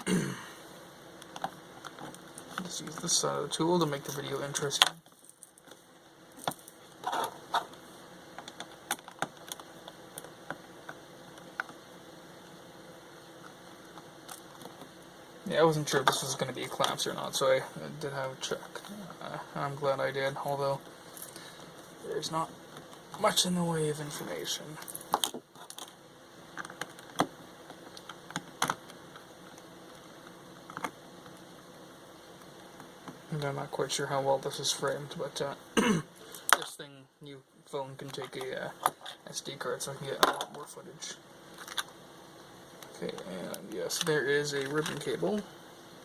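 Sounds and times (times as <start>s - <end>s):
faint background hum: 0.0s - 46.0s
faint steady hiss: 0.0s - 46.0s.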